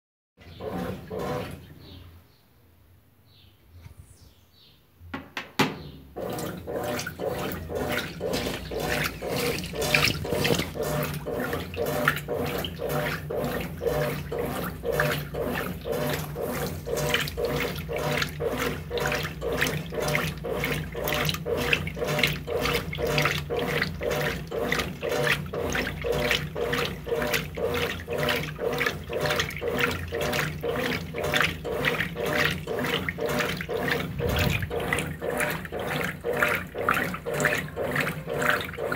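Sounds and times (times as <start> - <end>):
washing machine motor hum: 0.4 - 2.0, 5.8 - 38.9
washing machine water sloshing: 0.4 - 2.0, 6.1 - 38.9.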